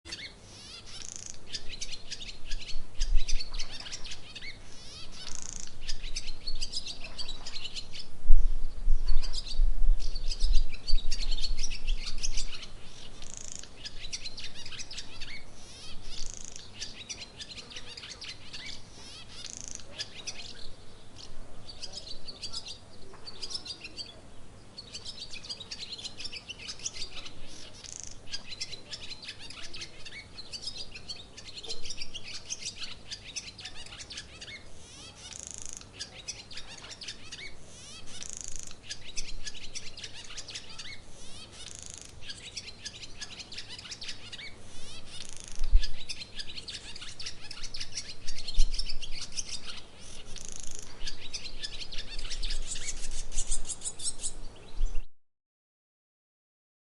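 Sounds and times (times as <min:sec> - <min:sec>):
small birds chirping and twittering: 0:00.1 - 0:55.1.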